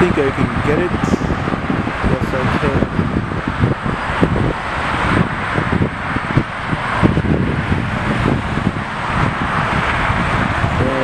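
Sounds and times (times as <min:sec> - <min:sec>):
jet engines rumbling: 0:00.0 - 0:11.0
wind buffeting microphone: 0:00.0 - 0:11.0.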